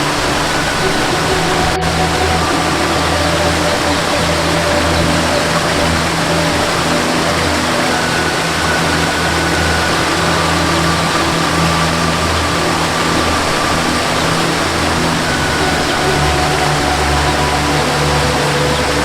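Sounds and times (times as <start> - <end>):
soft melody of held notes: 0.0 - 19.0
waterfall rushing: 0.0 - 19.0.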